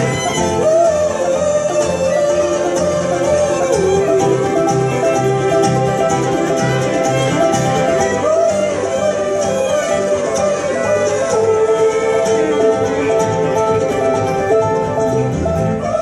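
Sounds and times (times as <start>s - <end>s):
acoustic guitar: 0.0s - 16.0s
banjo: 0.0s - 16.0s
fiddle: 0.0s - 16.0s
upright bass: 0.0s - 16.0s.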